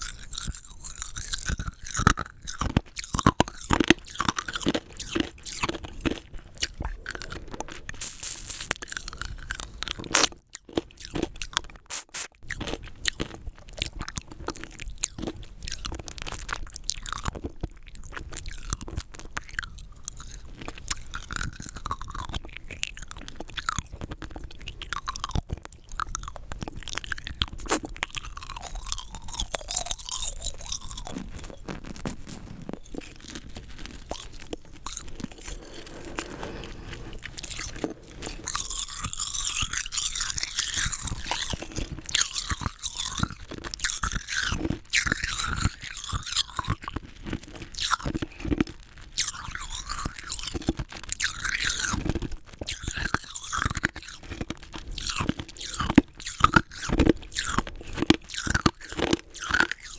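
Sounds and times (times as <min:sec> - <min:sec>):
rock candy crunching in mouth: 0:00.0 - 0:59.9.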